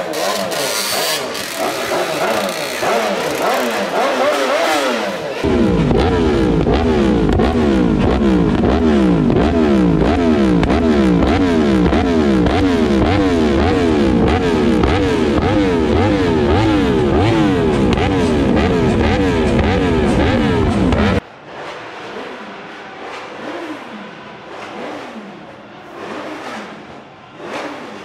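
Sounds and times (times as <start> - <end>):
motorcycle engine revving: 0.0 - 21.2, 21.8 - 28.0.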